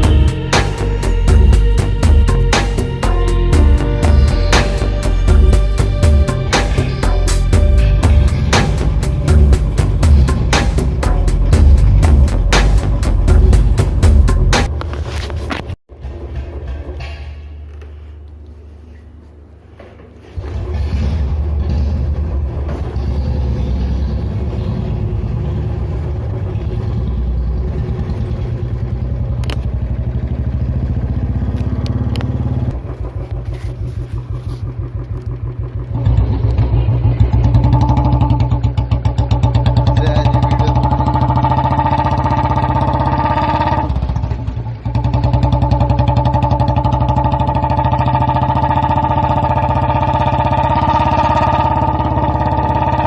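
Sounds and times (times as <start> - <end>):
motorcycle engine pulsing exhaust: 0.0 - 17.6, 20.4 - 53.0.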